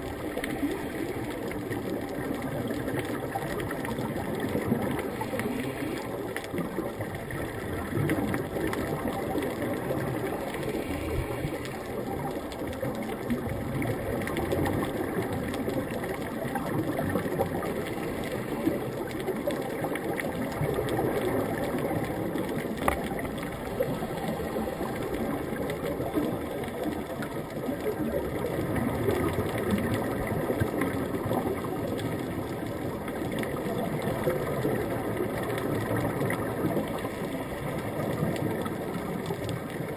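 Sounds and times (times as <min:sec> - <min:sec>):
faint clicks: 0:00.0 - 0:39.9
muffled underwater rumble: 0:00.0 - 0:39.9.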